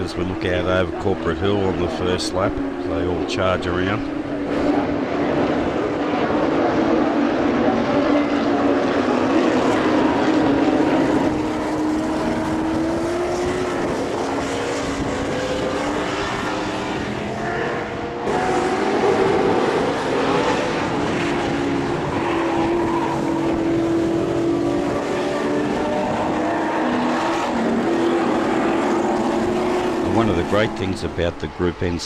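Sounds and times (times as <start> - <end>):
racing car engines at high revs: 0.0 - 32.0.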